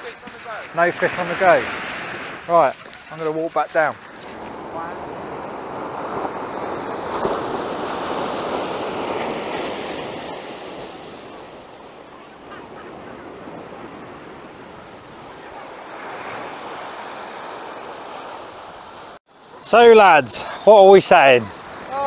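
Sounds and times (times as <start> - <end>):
sea waves breaking on beach: 0.0 - 22.0.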